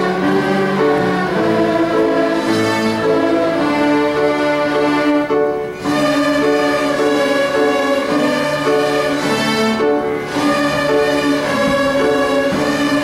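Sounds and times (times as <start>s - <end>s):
string orchestra playing violins: 0.0s - 13.0s.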